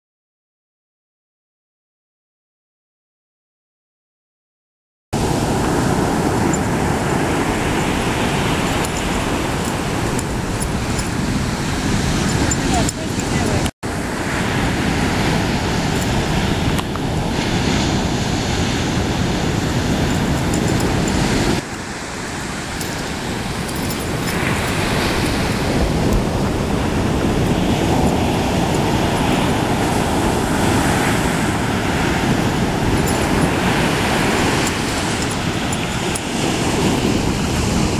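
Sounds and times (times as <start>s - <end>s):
ocean waves breaking: 5.2s - 37.9s
wind on microphone: 5.2s - 37.9s.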